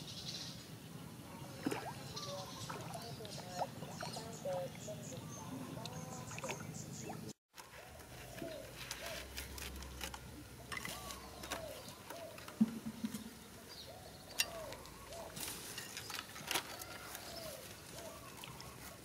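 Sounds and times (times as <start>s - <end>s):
bird calling: 1.4s - 15.4s, 16.0s - 19.0s.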